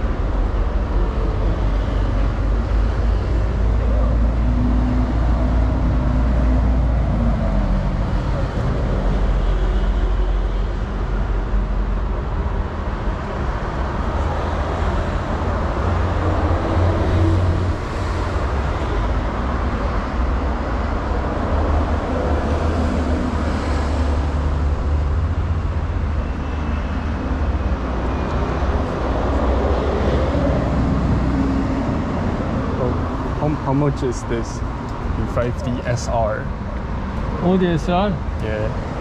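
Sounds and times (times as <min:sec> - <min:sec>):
passing cars rumbling: 0:00.0 - 0:39.0.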